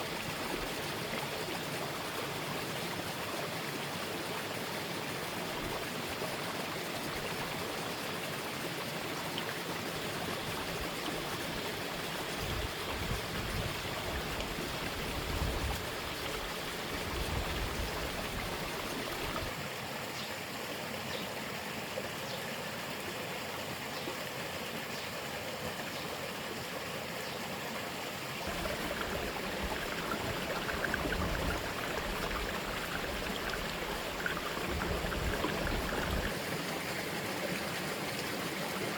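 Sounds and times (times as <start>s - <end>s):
running water rushing: 0.0s - 19.7s, 26.4s - 38.9s.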